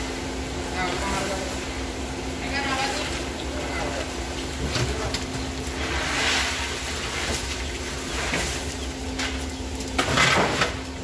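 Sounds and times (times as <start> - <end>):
hot oil sizzling: 0.0 - 11.0
low rumble with faint hum: 0.0 - 11.0.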